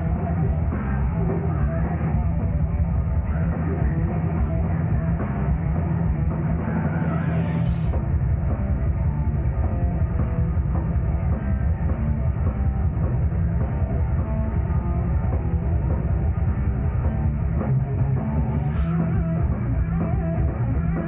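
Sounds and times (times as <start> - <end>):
bass guitar: 0.0 - 21.0
distorted electric guitars: 0.0 - 21.0
drum kit: 0.0 - 21.0
thrash metal band playing live: 0.0 - 21.0.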